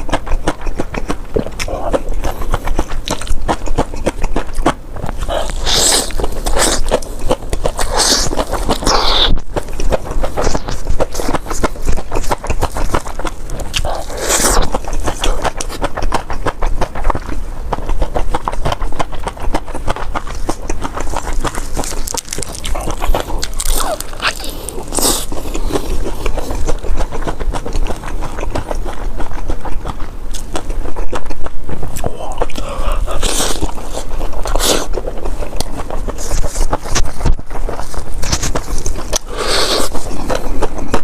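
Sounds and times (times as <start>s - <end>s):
wet chewing mouth sounds: 0.0s - 41.0s.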